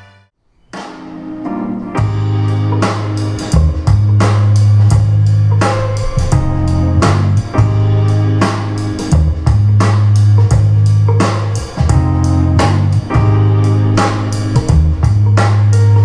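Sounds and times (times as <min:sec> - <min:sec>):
instrumental music with drum beat: 0:00.7 - 0:16.0.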